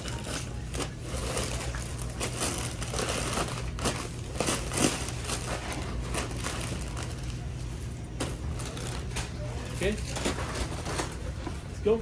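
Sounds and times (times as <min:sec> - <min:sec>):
plastic bags crinkling: 0:00.0 - 0:12.0
steady low hum: 0:00.0 - 0:12.0.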